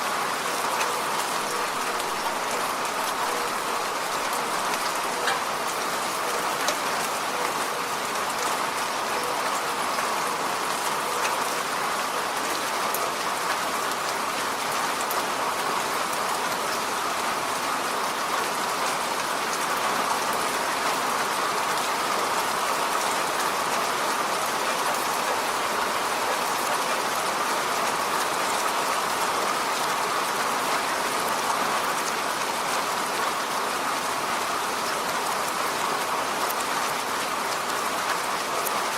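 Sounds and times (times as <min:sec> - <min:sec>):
rain falling on road: 0:00.0 - 0:38.9.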